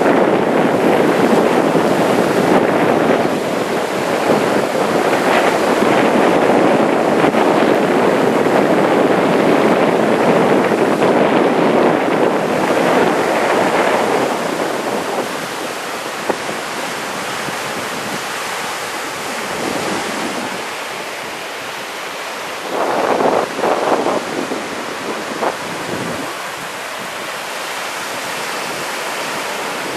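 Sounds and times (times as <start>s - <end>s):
surf breaking on beach: 0.0s - 29.9s
wind buffeting microphone: 0.0s - 29.9s.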